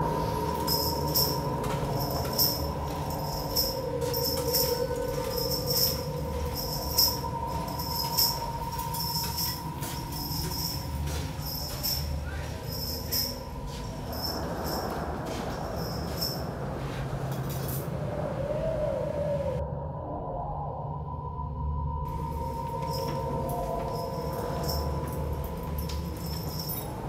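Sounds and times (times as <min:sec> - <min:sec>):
low drone rumble and hum: 0:00.0 - 0:27.0.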